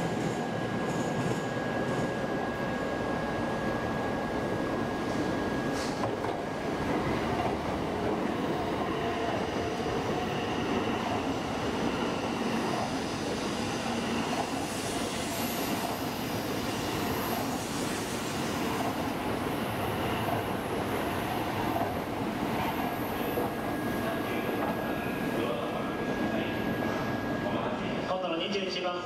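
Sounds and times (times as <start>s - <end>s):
train rolling past: 0.0s - 28.8s.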